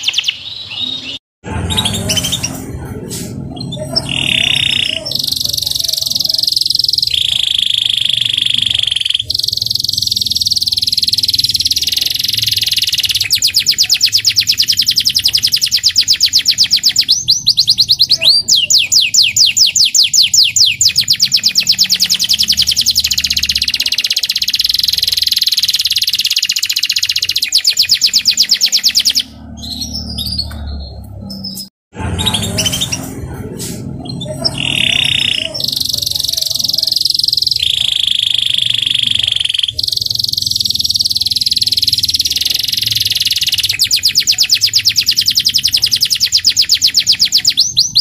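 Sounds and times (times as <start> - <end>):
canary singing trill: 0.0 - 48.0.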